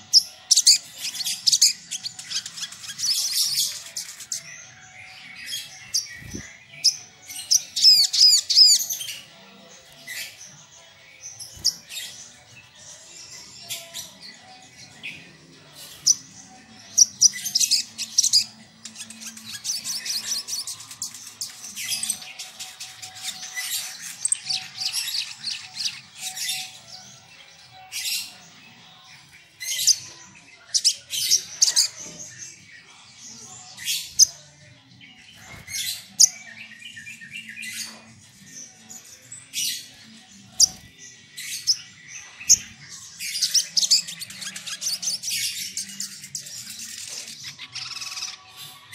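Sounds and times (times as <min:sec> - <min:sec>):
bird singing high chirps and trills: 0:00.0 - 0:48.9.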